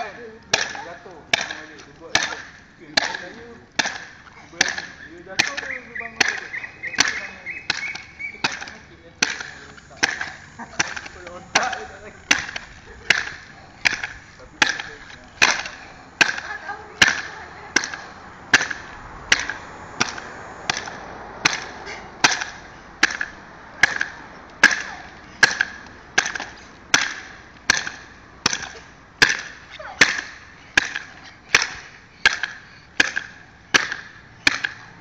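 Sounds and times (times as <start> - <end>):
spring stilts clacking on asphalt: 0.3 - 35.0.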